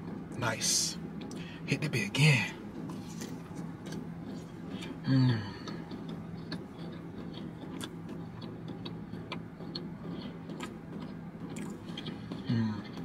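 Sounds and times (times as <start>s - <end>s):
steady low hum: 0.0s - 13.0s
person chewing food: 1.0s - 1.5s, 2.6s - 13.0s.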